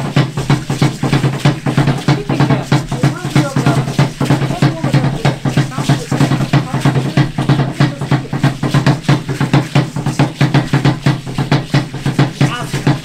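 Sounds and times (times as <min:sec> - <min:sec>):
fast drumming on large drum: 0:00.0 - 0:13.0.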